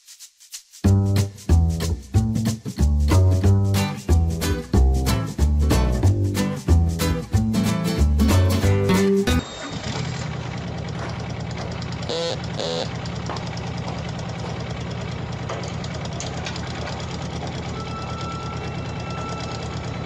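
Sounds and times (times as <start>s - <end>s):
diesel engine running: 1.5s - 20.0s.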